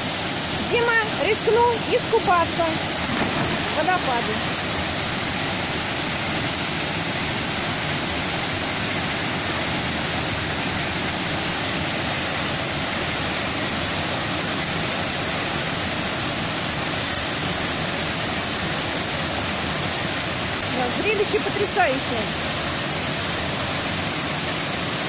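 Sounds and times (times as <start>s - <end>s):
waterfall pouring into pool: 0.0s - 25.0s.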